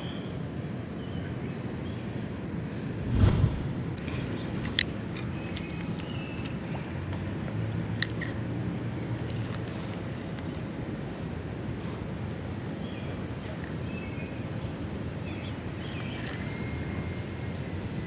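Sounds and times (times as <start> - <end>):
distant city traffic rumble: 0.0 - 18.0
insect drone: 0.0 - 18.0.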